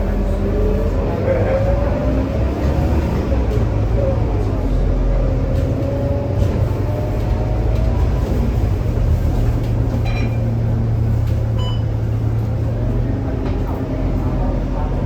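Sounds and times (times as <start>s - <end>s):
bus diesel engine whining: 0.0s - 15.0s.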